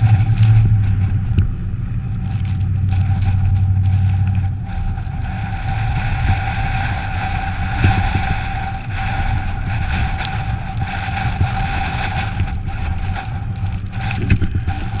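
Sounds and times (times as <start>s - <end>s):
car road and engine rumble: 0.0s - 15.0s
constant whine: 0.0s - 15.0s.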